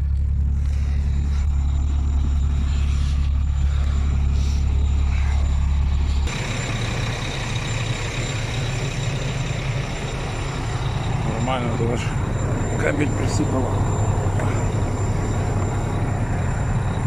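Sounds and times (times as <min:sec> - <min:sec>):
diesel engine idling: 0:00.0 - 0:17.0
engine hiss with high whine: 0:00.0 - 0:17.0.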